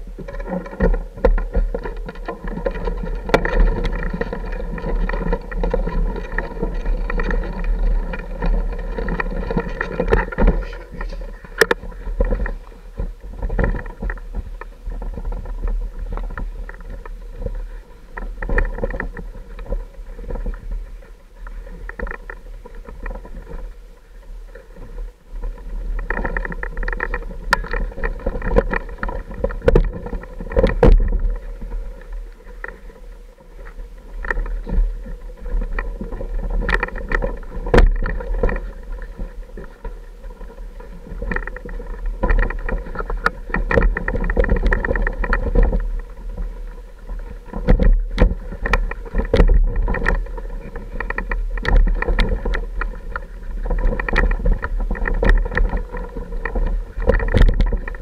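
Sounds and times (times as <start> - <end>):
bike knocking over rocks: 0.0 - 23.8, 24.6 - 58.0.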